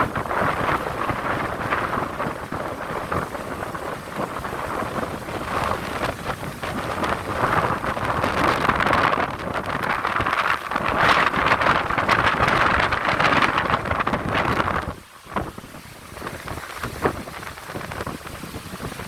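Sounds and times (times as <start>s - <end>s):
gusting wind: 0.0s - 19.0s
rain: 0.0s - 19.0s
wind buffeting microphone: 0.0s - 19.0s.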